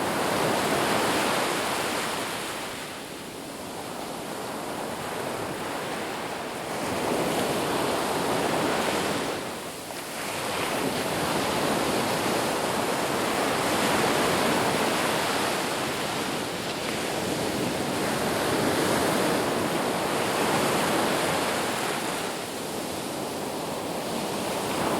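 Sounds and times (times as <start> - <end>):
sea waves breaking on shore: 0.0 - 24.9.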